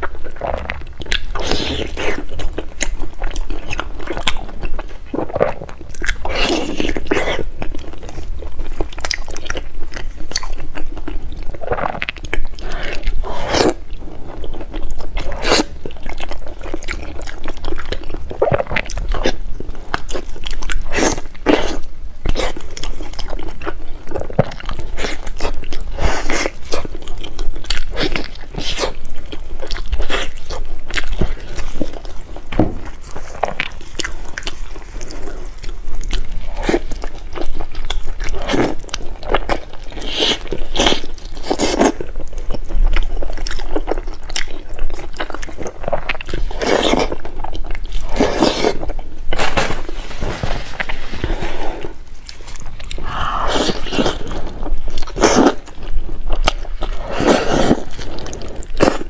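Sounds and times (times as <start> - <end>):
person biting and chewing meat: 0.0 - 59.0.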